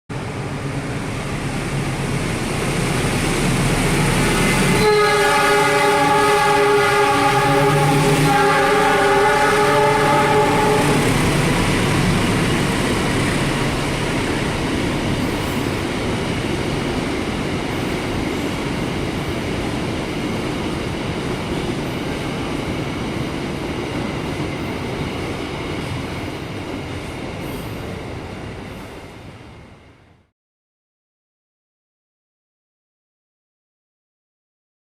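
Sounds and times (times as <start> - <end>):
freight train rolling on rails: 0.1 - 30.3.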